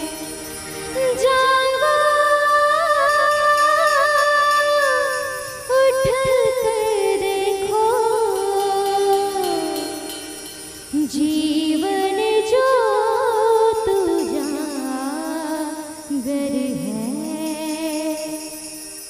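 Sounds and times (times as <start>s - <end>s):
devotional music accompaniment: 0.0s - 19.0s.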